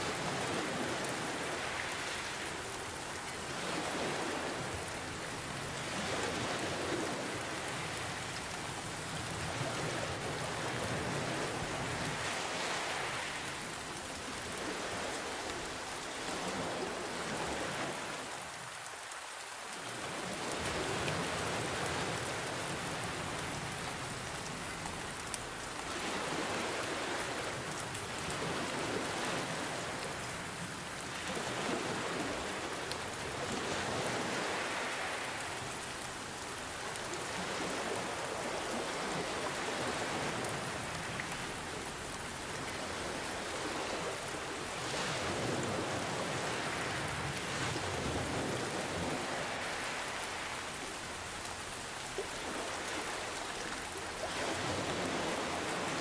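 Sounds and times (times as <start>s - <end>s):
ocean surf: 0.0s - 19.1s, 19.7s - 56.0s.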